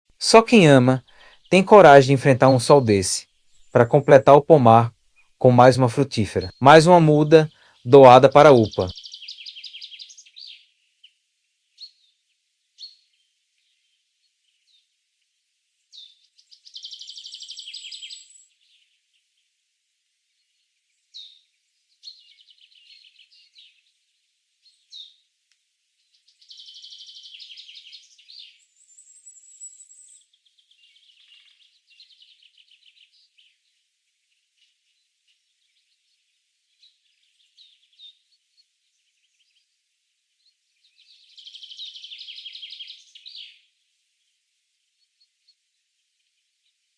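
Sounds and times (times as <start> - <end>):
bird chirps and trills: 0.5 - 14.9, 15.8 - 19.4, 20.4 - 24.0, 24.6 - 25.2, 26.0 - 39.8, 40.4 - 44.3.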